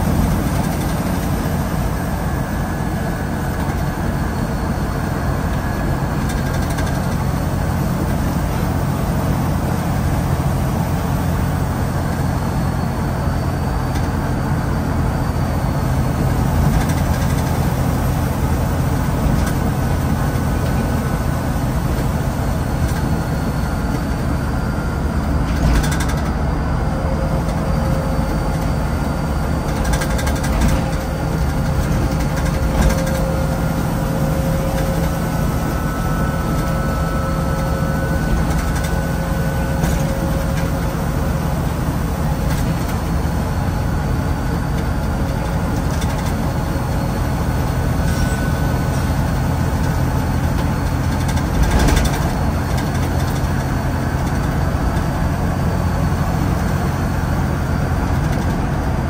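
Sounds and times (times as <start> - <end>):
bus diesel engine running: 0.0 - 59.0
road noise: 0.0 - 59.0.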